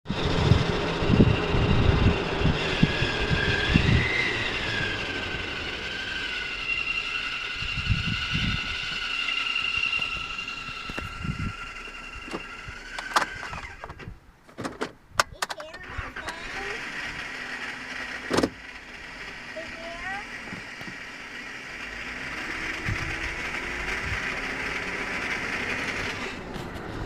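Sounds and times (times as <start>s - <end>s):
high-pitched car whine: 0.1s - 14.1s, 15.6s - 27.0s.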